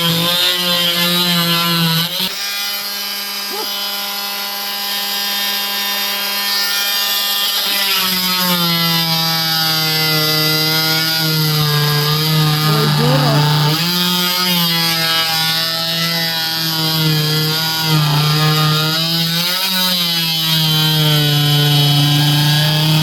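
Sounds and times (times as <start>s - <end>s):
power tool motor cutting wood: 0.0s - 23.0s.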